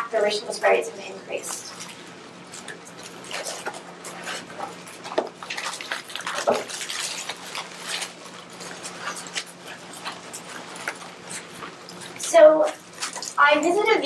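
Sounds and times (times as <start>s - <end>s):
faint steady hum: 0.0s - 14.0s
papers rustling: 1.7s - 14.0s.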